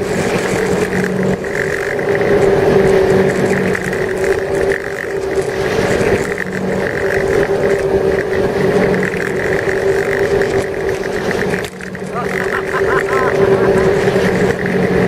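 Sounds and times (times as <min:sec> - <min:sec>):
boat engine droning: 0:00.0 - 0:15.0
water and wind noise: 0:00.0 - 0:15.0.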